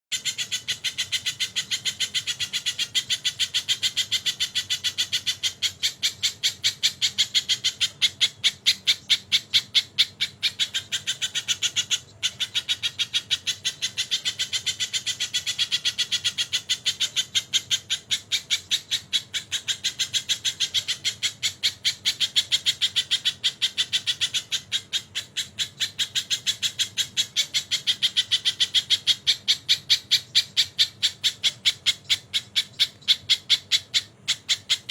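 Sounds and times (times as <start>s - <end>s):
songbird singing harsh notes: 0.1s - 34.9s.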